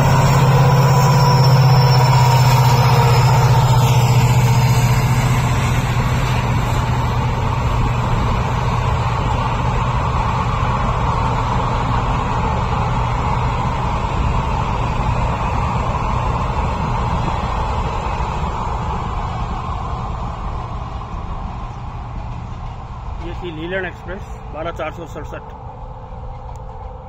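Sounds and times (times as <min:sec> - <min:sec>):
train engine hum: 0:00.0 - 0:27.0
train rushing rumble: 0:00.0 - 0:27.0.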